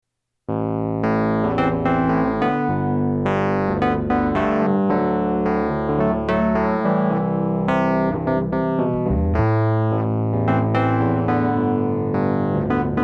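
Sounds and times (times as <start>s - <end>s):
electric piano notes: 1.0s - 13.0s.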